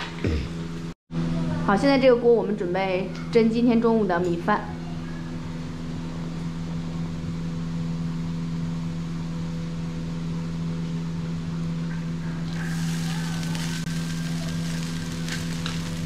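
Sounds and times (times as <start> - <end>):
electric fan motor humming: 0.0 - 16.0.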